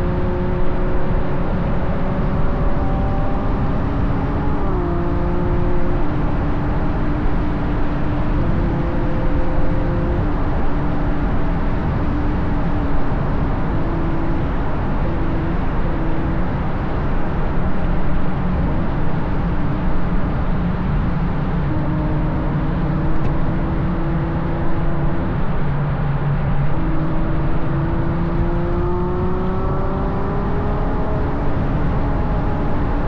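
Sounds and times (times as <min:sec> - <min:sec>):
car engine cruising: 0:00.0 - 0:33.0
tyre road noise: 0:00.0 - 0:33.0
wind noise: 0:00.0 - 0:33.0.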